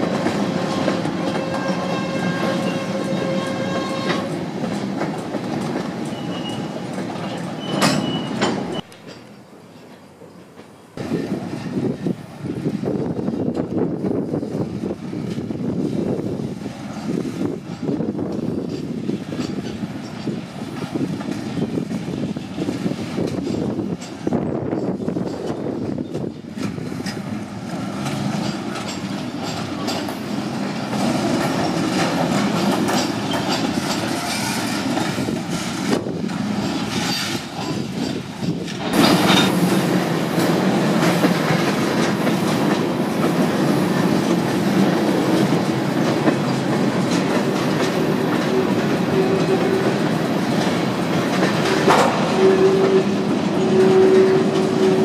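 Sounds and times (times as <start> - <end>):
train wheels clacking over rail joints: 0.0 - 12.1, 13.2 - 55.0.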